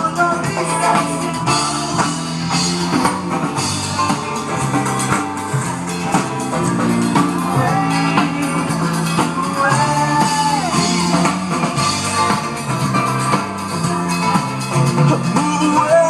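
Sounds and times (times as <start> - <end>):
drum kit beat: 0.0 - 16.0
live rock band playing: 0.0 - 16.0.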